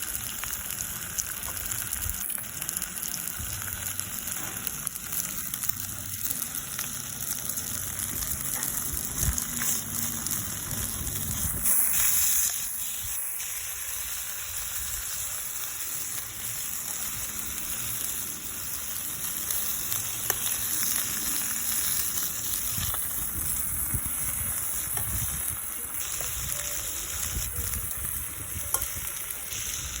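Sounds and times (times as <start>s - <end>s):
meat sizzling on a grill: 0.0s - 30.0s
sharp pops of fire: 0.0s - 30.0s.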